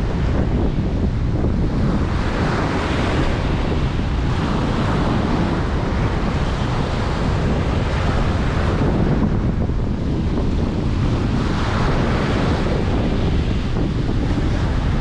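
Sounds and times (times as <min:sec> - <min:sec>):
ocean waves breaking on beach: 0:00.0 - 0:15.0
wind buffeting microphone: 0:00.0 - 0:15.0.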